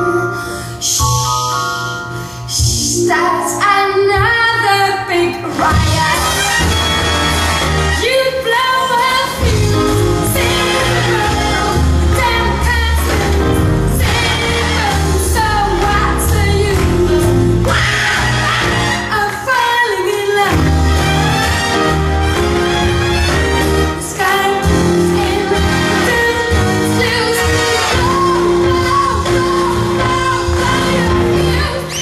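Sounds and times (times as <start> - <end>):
song over loudspeakers: 0.0 - 32.0.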